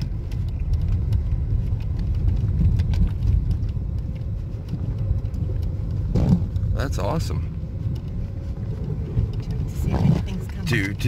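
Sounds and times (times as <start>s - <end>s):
faint clicks: 0.0s - 11.0s.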